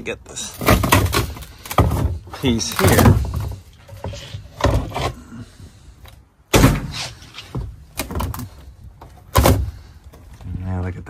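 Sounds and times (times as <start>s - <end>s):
wood knocks and scrapes: 0.5s - 5.2s, 6.0s - 10.4s.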